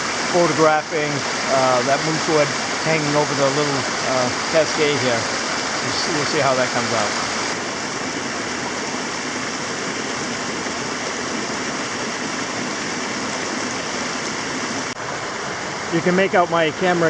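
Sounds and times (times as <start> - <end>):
small waterfall roaring: 0.0 - 17.0.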